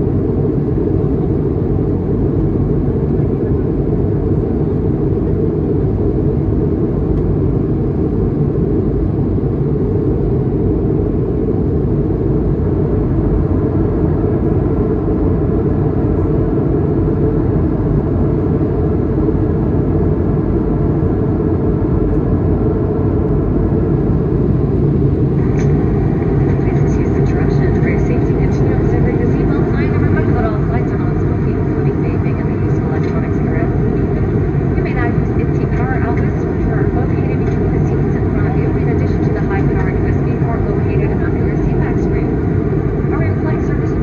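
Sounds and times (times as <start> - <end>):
airplane cabin drone: 0.0 - 44.0.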